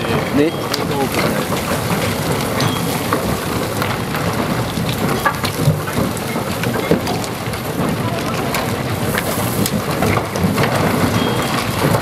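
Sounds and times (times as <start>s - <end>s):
crumbling stone clicks and crackles: 0.0s - 12.0s
tunnel boring machine rumbling: 0.0s - 12.0s.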